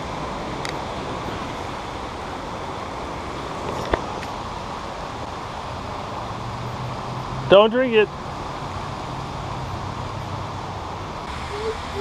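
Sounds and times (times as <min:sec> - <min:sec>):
rushing water in culvert: 0:00.0 - 0:12.0.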